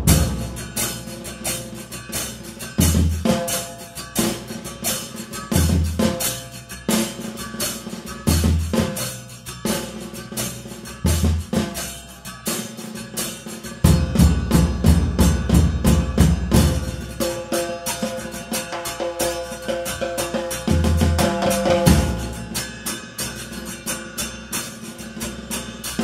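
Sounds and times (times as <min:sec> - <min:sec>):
heavy bass drum beat: 0:00.0 - 0:12.4, 0:13.8 - 0:18.2, 0:18.8 - 0:22.8
drums with cymbals playing: 0:00.0 - 0:26.0.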